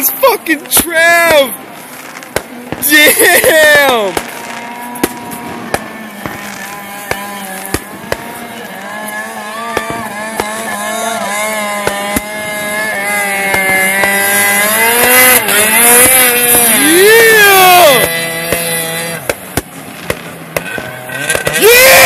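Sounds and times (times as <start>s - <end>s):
firework cracks: 0.0s - 22.0s
snowmobile engine running hard: 0.0s - 22.0s.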